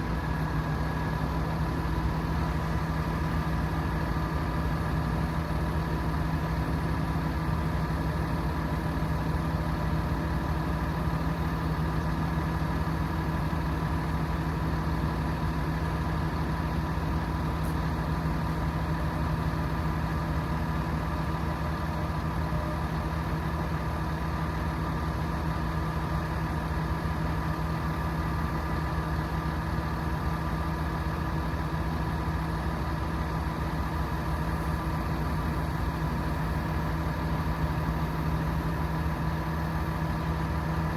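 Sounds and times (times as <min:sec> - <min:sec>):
diesel truck engine rumbling: 0:00.0 - 0:40.9.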